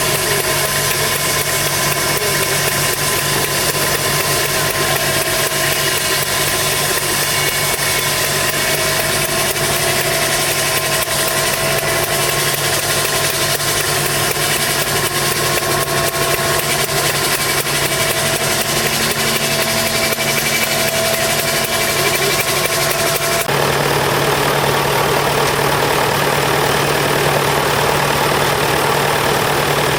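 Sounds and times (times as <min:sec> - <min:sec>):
engine running steadily: 0:00.0 - 0:29.9.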